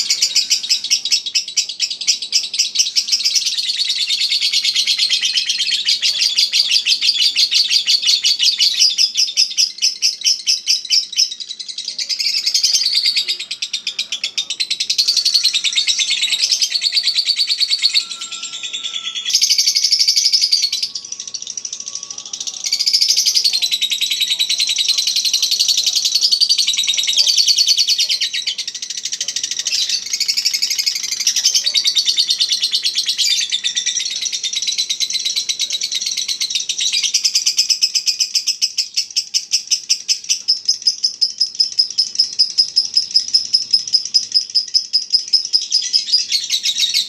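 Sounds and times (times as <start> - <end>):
lovebird high-pitched chattering: 0.0 - 47.0.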